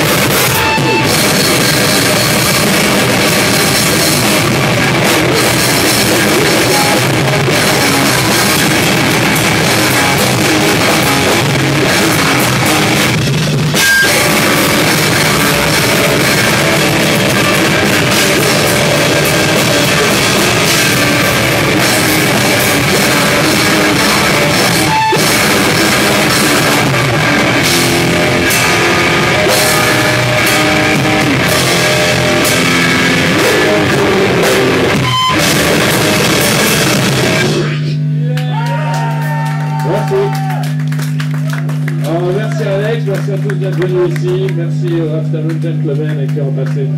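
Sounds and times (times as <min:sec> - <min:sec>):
drum kit with crashing cymbals: 0:00.0 - 0:38.2
electric guitar: 0:00.0 - 0:46.9.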